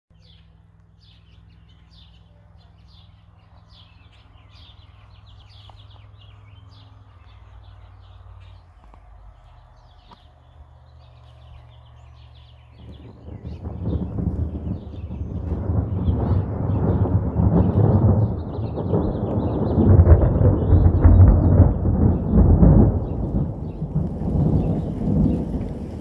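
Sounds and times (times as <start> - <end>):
birds chirping: 0.1 - 26.0
low steady rumble: 0.1 - 26.0.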